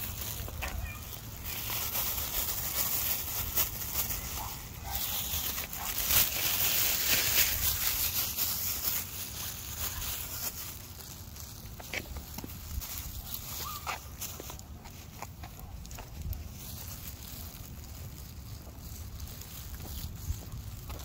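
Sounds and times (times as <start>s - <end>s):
rustling and crunching: 0.0s - 21.0s.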